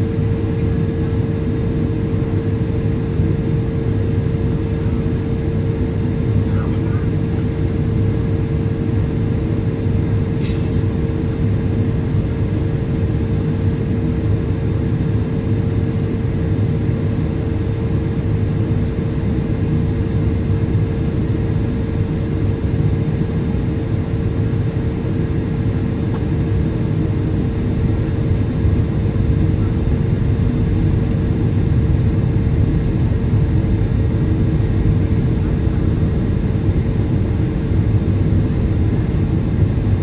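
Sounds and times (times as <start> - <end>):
airplane cabin airflow and engine rush: 0.0 - 40.0
constant hum: 0.0 - 40.0.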